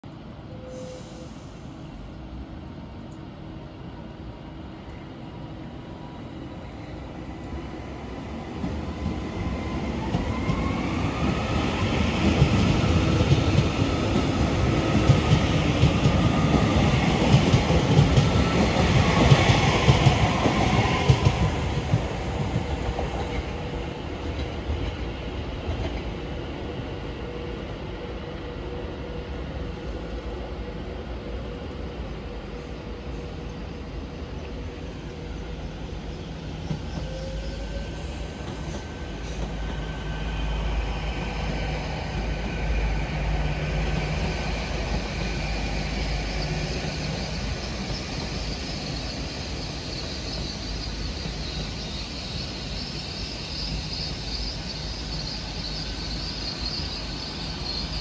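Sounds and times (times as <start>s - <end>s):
train wheels rumbling on rails: 6.3s - 58.0s.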